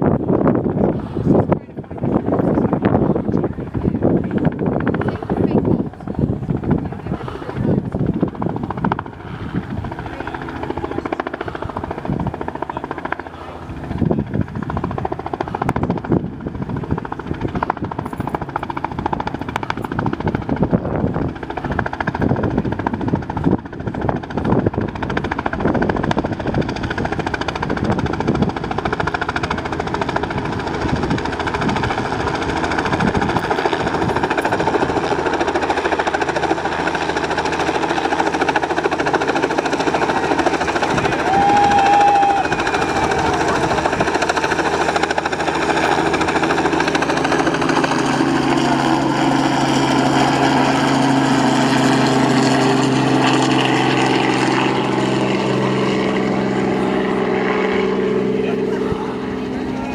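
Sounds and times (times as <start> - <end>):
helicopter rotor chopping: 0.0 - 59.9.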